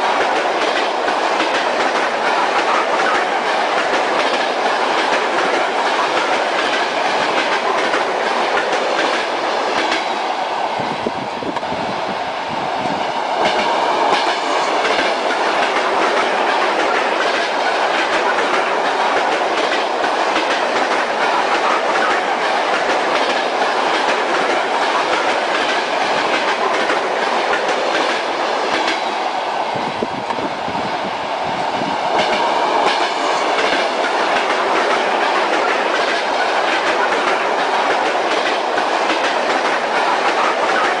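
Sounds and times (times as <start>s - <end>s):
train running noise: 0.0s - 41.0s
train wheels clattering over joints: 0.1s - 10.2s, 13.4s - 29.1s, 32.0s - 41.0s.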